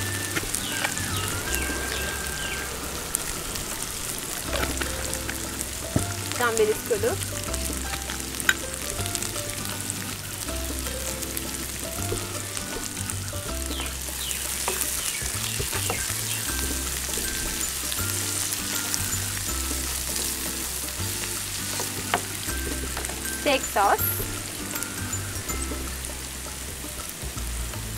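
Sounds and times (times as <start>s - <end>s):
background music with bass line: 0.0s - 27.9s
onions sizzling in a frying pan: 0.0s - 27.9s.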